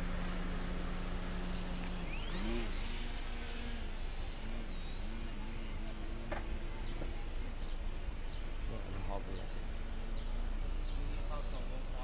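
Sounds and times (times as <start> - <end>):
biplane engine droning: 0.0 - 12.0
high wavering whine: 0.0 - 12.0.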